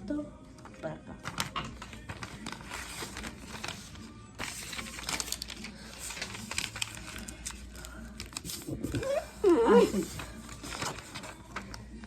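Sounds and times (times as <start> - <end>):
paper rustling and crinkling: 0.6 - 12.0.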